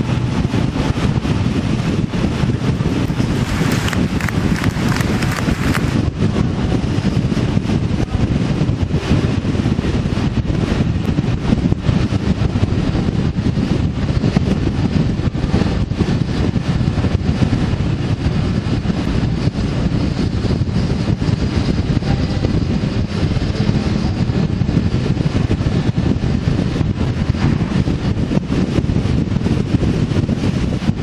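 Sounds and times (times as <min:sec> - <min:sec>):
low road noise: 0:00.0 - 0:30.9
wind rushing over microphone: 0:00.0 - 0:31.0.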